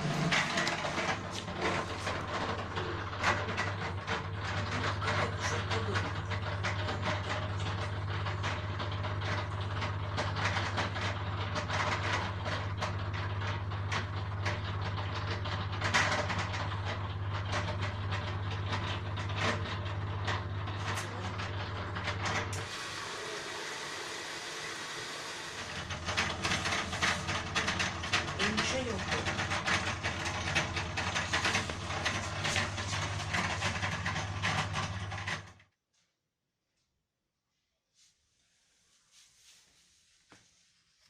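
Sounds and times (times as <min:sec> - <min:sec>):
drain pump humming: 0:00.0 - 0:35.5
pump clicking and rattling: 0:00.0 - 0:35.6.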